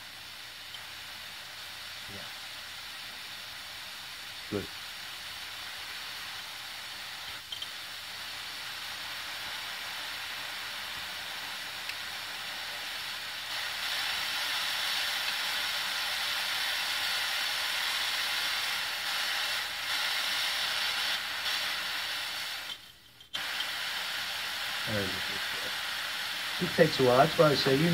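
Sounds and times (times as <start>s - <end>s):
pressurised vapour jet hissing: 0.0s - 27.9s.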